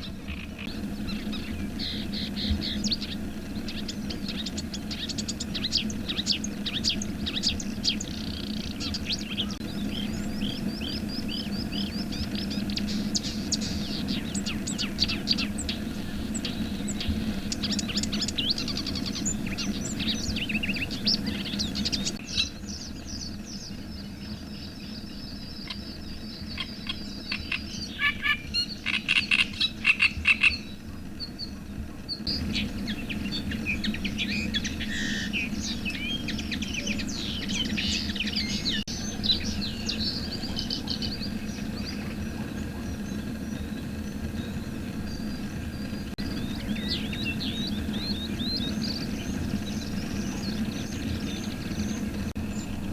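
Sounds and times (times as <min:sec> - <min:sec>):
frogs calling: 0:00.0 - 0:30.8, 0:32.3 - 0:44.6
songbirds singing and chirping: 0:00.0 - 0:52.9.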